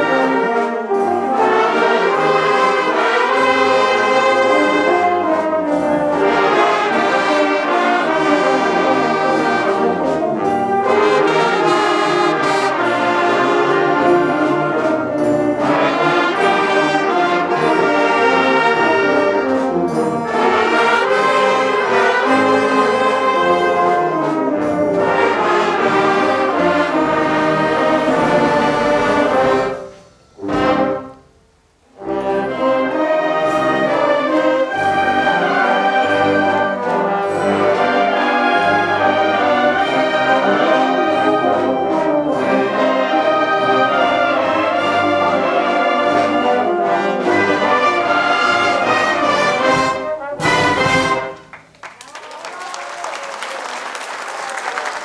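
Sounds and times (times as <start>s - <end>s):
wind band playing: 0.0s - 55.0s.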